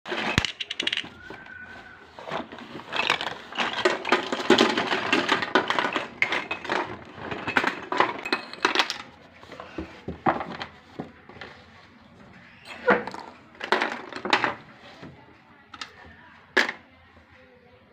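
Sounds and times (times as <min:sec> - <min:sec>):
plastic toys clattering together: 0:00.1 - 0:11.7, 0:12.7 - 0:15.1, 0:15.7 - 0:16.8.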